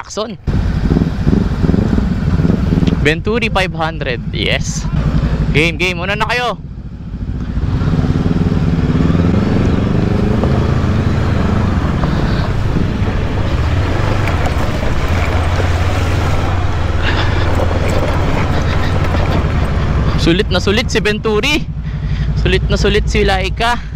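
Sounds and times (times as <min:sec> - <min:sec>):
steady rushing noise: 0:00.0 - 0:23.8
motorcycle engine running: 0:00.4 - 0:23.9.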